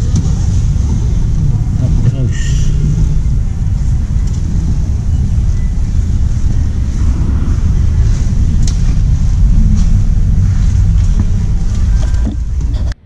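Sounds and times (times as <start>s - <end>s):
low microphone rumble: 0.0s - 13.0s.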